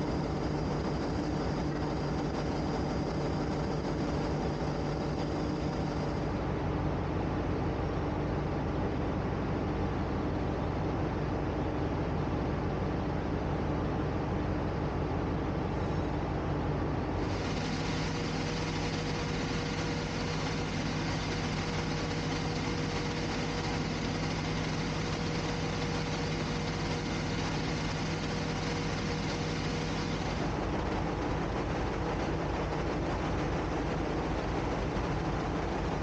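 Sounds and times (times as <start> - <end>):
diesel engines droning: 0.0 - 36.0
multi-tone hum: 0.0 - 36.0.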